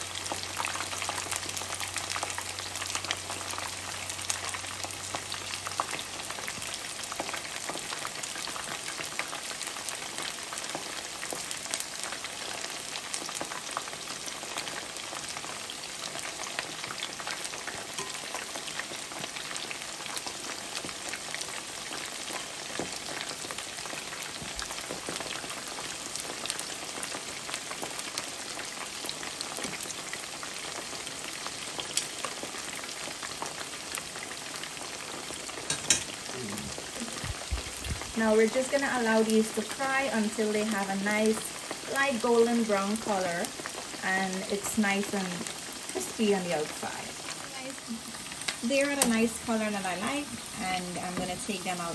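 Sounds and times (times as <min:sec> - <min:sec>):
chicken deep-frying in oil: 0:00.0 - 0:51.9.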